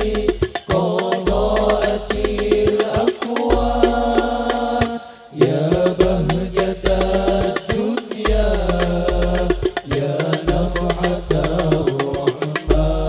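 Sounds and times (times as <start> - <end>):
frame drums beating: 0.0 - 13.0
sung chant: 0.0 - 13.0.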